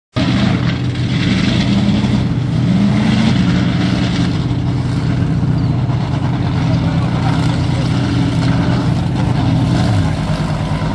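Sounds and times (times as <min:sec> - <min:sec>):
truck engine running: 0:00.1 - 0:10.9.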